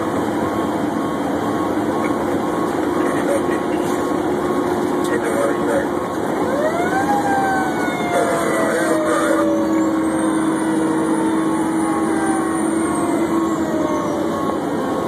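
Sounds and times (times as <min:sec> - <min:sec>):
fire engine siren wailing: 0:00.0 - 0:15.0
road noise: 0:00.0 - 0:15.0
truck engine: 0:00.0 - 0:15.0.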